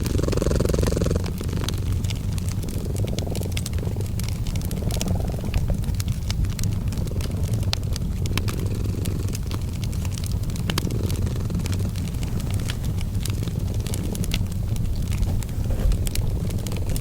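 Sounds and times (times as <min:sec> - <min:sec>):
cat purring: 0:00.0 - 0:17.0
wood fire crackling: 0:00.0 - 0:17.0.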